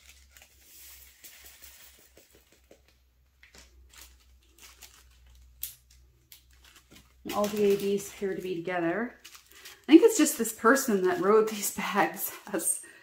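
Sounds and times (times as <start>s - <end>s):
plastic bags rustling: 0.0s - 2.5s, 3.4s - 13.0s.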